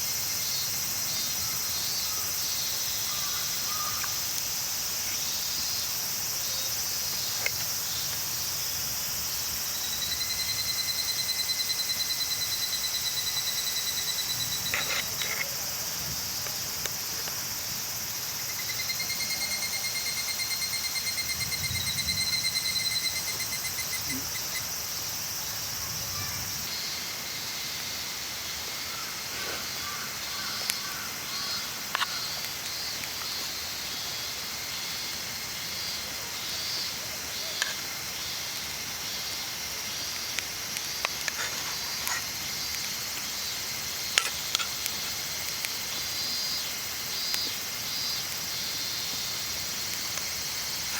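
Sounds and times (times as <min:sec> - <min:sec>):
insect chirring: 0:00.0 - 0:50.9
rapid pulsed insect trill: 0:00.0 - 0:50.9.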